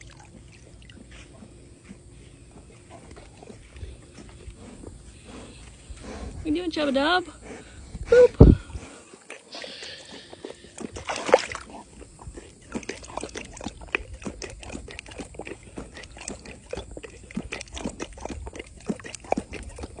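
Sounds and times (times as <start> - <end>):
water sloshing and splashing: 0.0 - 6.0, 8.5 - 20.0.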